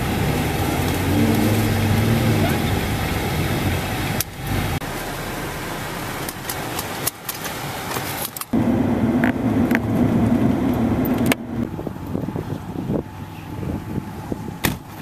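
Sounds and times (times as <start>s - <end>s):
car engines driving over snow: 0.0s - 15.0s.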